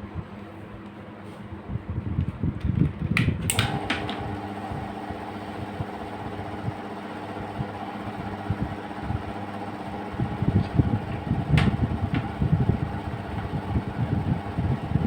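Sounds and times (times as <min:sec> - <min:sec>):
ceiling fan humming: 0:00.0 - 0:15.0.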